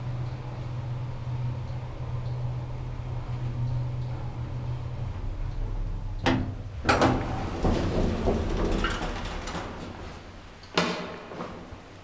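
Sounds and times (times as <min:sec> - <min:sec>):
elevator doors sliding open: 0:00.6 - 0:12.0.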